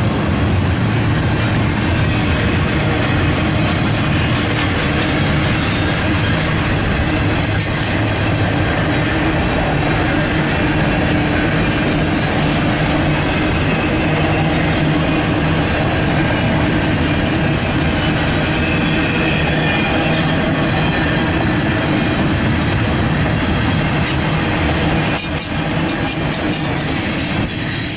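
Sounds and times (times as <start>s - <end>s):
train wheels running on rails: 0.0s - 27.9s.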